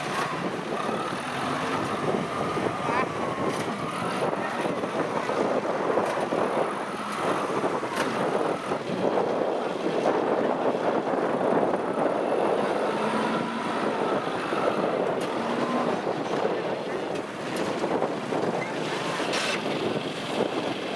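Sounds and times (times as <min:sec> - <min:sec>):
combine harvester running: 0:00.0 - 0:20.9.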